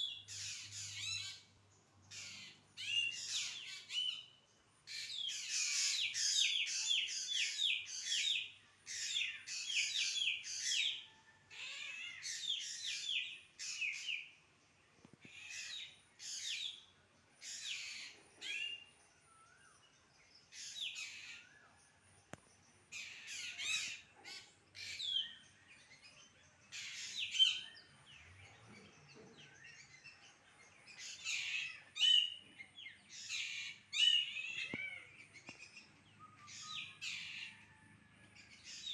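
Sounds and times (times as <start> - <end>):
birds chirping and squawking: 0.0 - 38.9.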